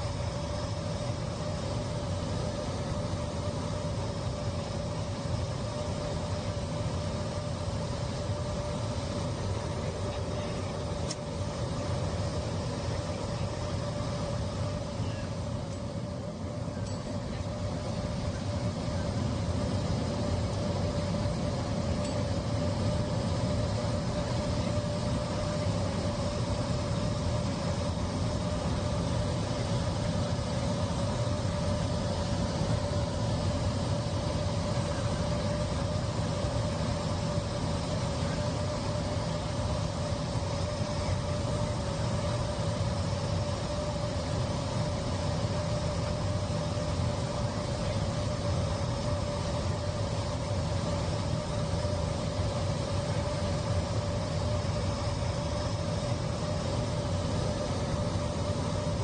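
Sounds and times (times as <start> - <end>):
airliner engine and airflow rush: 0.0 - 59.0
steady hum-like tone: 0.0 - 59.0.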